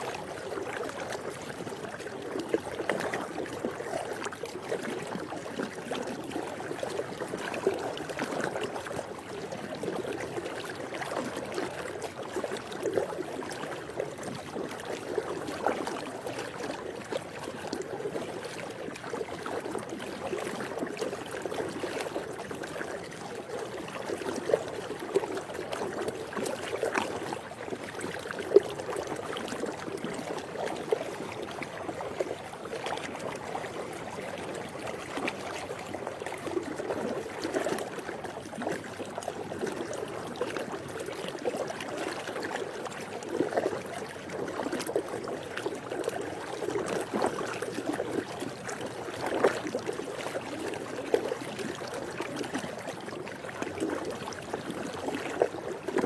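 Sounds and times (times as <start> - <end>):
moving pool water: 0.0 - 56.0
small water splashes: 0.0 - 56.0.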